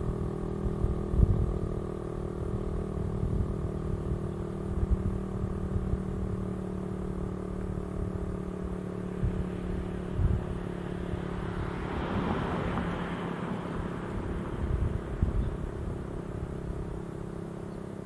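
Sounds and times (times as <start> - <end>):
passing vehicle: 0.0 - 18.0.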